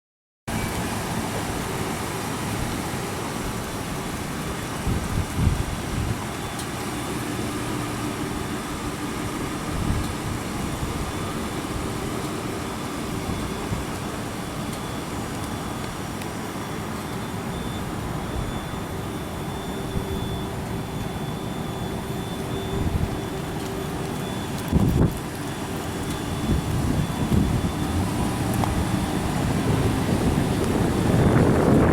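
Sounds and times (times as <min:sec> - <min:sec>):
faint constant whine: 0:00.5 - 0:31.9
vehicle engine rumbling: 0:00.5 - 0:31.9.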